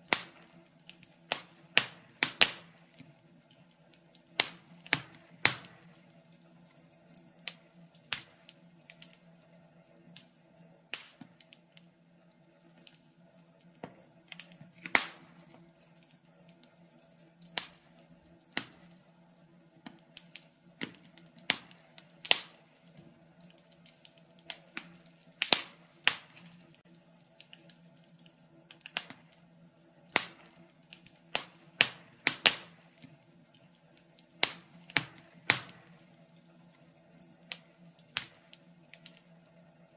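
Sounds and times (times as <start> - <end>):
sharp pops and snaps: 0.0 - 9.2, 10.1 - 11.9, 13.7 - 19.0, 19.7 - 29.4, 30.1 - 39.3
wood fire crackling: 0.0 - 39.9.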